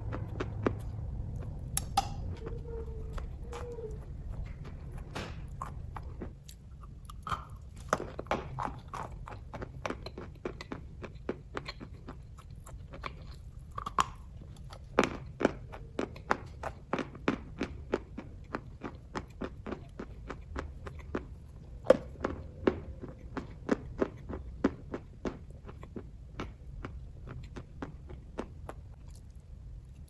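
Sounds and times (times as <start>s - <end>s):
wet chewing mouth clicks: 0.0s - 30.0s.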